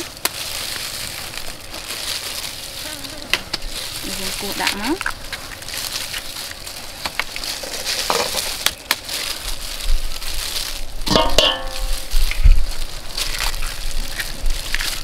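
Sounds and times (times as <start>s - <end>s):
eggshells cracking: 0.0s - 15.0s.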